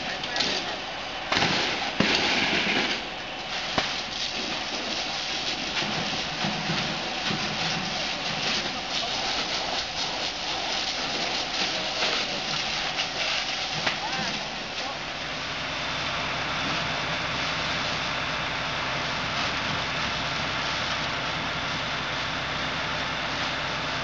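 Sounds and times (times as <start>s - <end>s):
hose spraying water: 0.0s - 24.0s.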